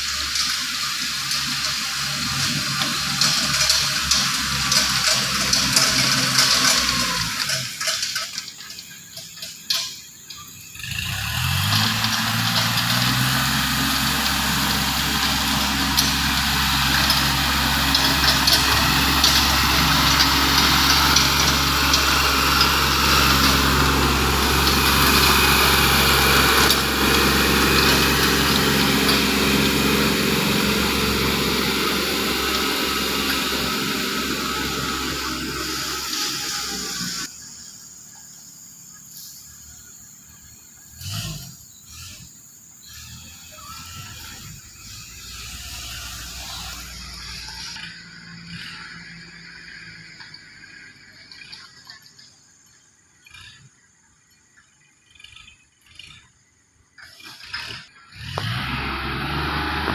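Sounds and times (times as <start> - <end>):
small tractor engine: 0.0 - 59.9.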